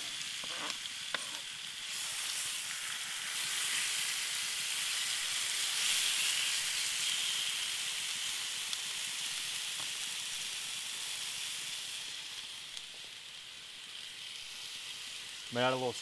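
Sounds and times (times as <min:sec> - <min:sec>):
meat sizzling on a griddle: 0:00.0 - 0:16.0.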